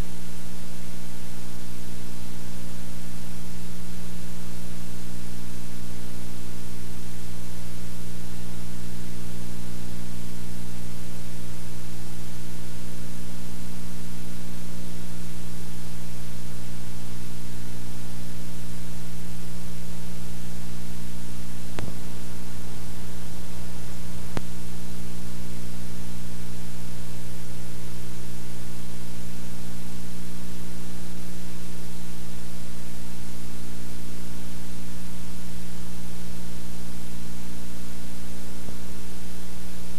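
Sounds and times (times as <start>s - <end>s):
electrical mains hum: 0.0s - 39.9s
steady hiss: 0.0s - 39.9s.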